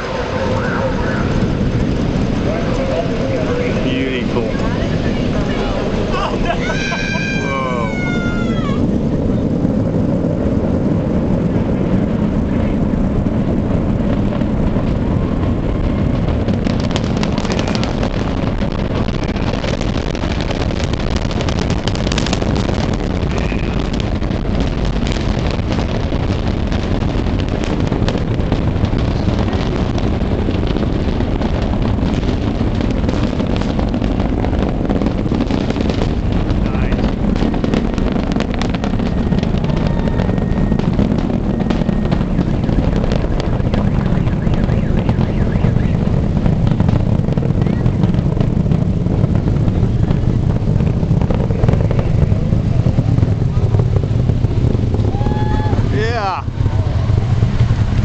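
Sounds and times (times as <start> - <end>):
rocket engines rumbling: 0.0 - 58.0
sharp rocket crackling: 0.0 - 58.0.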